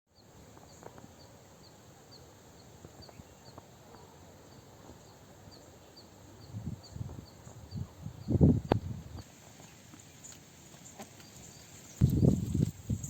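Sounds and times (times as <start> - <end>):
rural ambience: 0.1 - 13.0.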